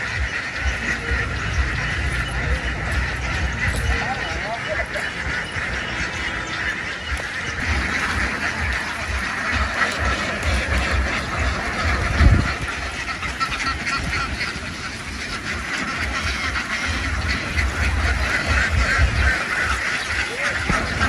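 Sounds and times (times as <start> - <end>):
ducks quacking: 0.0 - 21.0.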